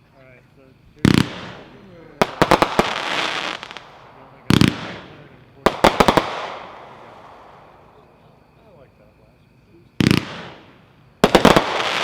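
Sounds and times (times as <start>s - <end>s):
firework sharp cracks and reports: 0.9s - 8.5s, 9.9s - 12.0s.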